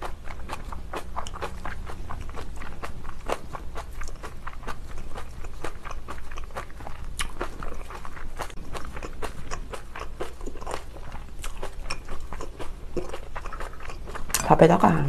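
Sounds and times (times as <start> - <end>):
chewing crunchy cabbage: 0.0 - 14.5.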